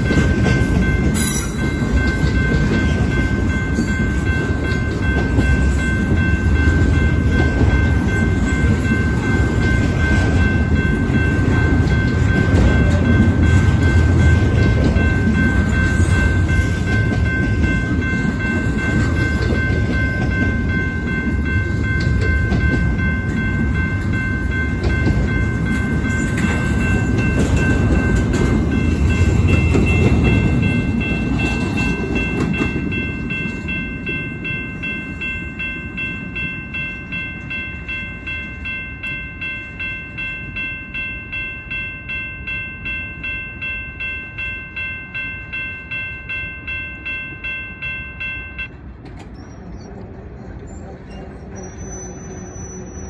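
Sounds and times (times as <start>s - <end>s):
crossing warning bell ringing: 0.0s - 53.0s
freight train rumbling: 0.0s - 53.0s.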